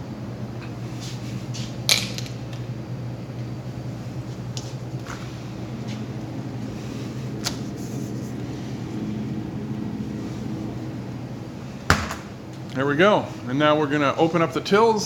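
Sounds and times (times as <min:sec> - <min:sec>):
refrigerator electrical hum: 0:00.0 - 0:15.0.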